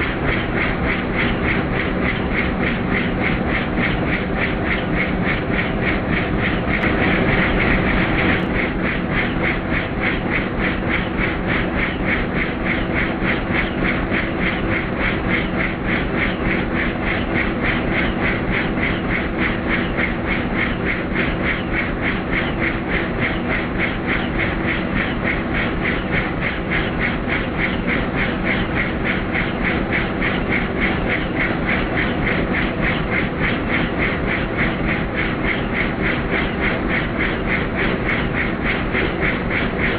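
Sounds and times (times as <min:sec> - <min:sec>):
helicopter engine drone: 0:00.0 - 0:39.9
helicopter rotor chop: 0:00.0 - 0:39.9.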